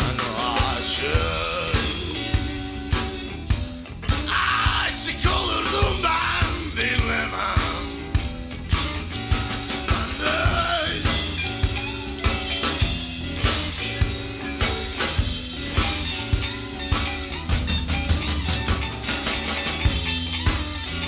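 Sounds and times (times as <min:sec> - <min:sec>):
electric guitar lines: 0:00.0 - 0:21.0
steady drum beat: 0:00.0 - 0:21.0.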